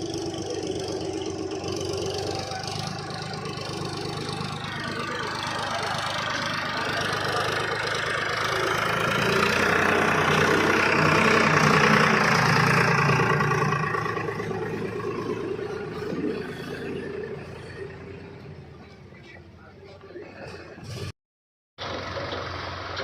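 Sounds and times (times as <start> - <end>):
heavy diesel engine running: 0.0 - 21.1, 21.8 - 23.0.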